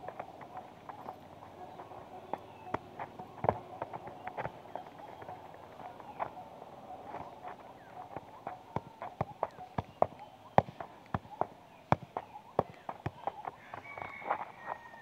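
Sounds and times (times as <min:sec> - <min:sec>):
football kicked and bouncing: 0:00.0 - 0:06.4, 0:07.0 - 0:15.0.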